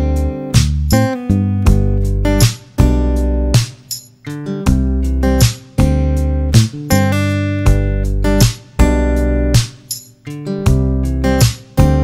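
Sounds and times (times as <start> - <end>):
deep steady bass: 0.0 - 3.6, 4.7 - 9.6, 10.7 - 12.0
strummed acoustic guitar: 0.0 - 12.0.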